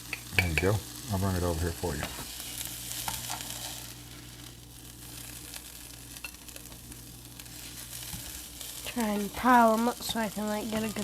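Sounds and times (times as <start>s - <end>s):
onions and mushrooms sizzling in a pan: 0.0s - 11.0s.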